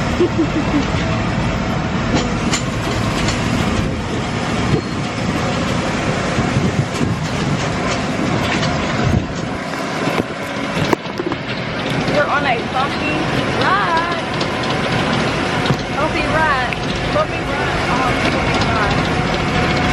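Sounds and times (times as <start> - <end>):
wagon rattling over bumpy ground: 0.0 - 19.9
knocks and clatters: 2.1 - 19.9.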